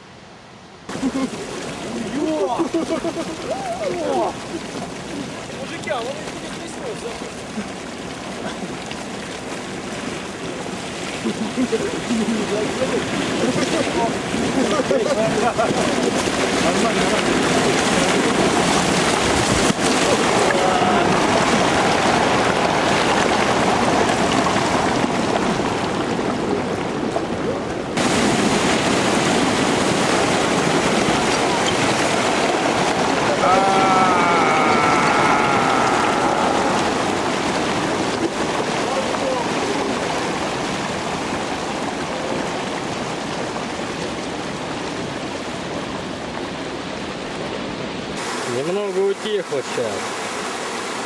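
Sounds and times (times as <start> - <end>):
mudflow roaring down a channel: 0.9 - 51.0.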